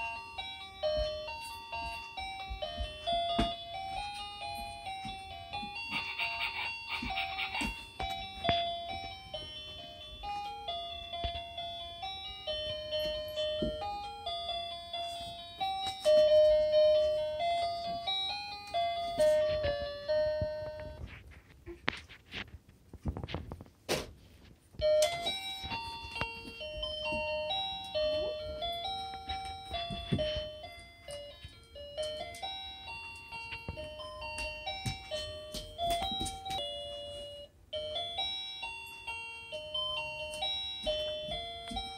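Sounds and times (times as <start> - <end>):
bell-like chiming melody: 0.0 - 21.1, 24.8 - 41.9.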